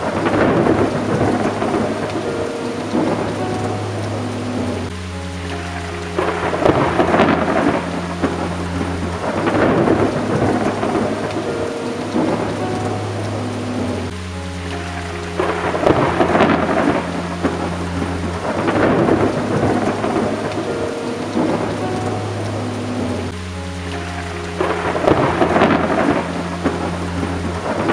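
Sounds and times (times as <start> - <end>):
low drone: 0.0 - 27.9
steady rain: 0.0 - 27.9
thunder rumbling: 0.0 - 27.9.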